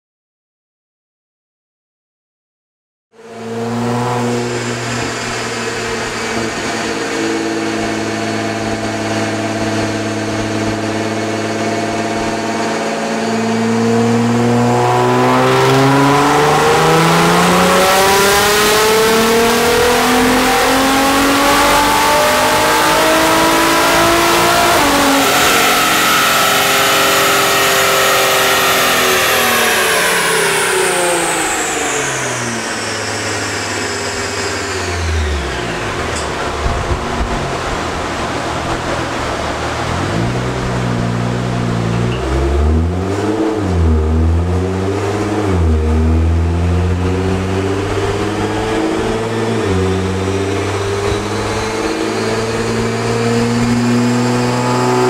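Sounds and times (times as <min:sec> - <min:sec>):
car engine revving on dyno: 0:03.2 - 0:55.0.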